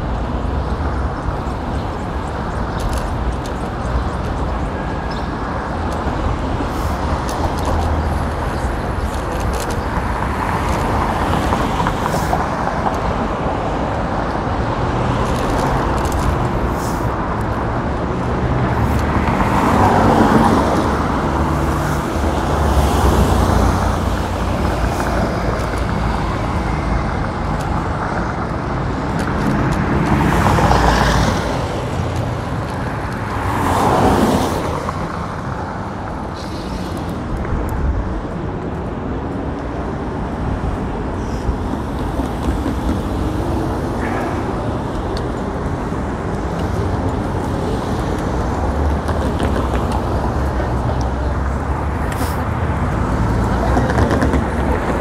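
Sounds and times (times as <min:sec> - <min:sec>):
city street traffic: 0:00.0 - 0:55.0
vehicles passing loudly: 0:00.0 - 0:55.0.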